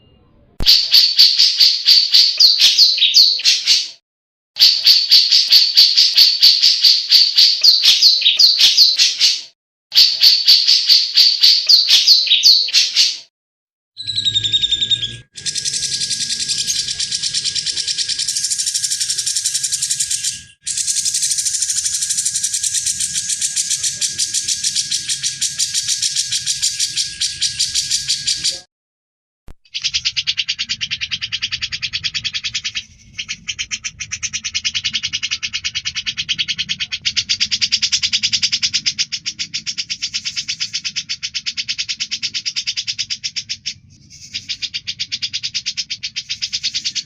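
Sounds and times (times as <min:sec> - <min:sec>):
bird chattering song: 0:00.0 - 0:04.0, 0:04.6 - 0:13.3, 0:14.0 - 0:28.7, 0:29.6 - 0:47.0
high bird trill: 0:00.0 - 0:04.0, 0:04.6 - 0:13.3, 0:14.0 - 0:28.7, 0:29.6 - 0:47.0.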